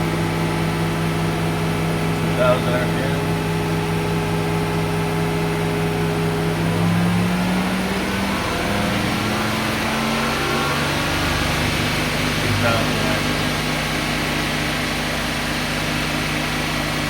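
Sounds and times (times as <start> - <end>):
lathe spindle hum and whine: 0.0 - 17.0.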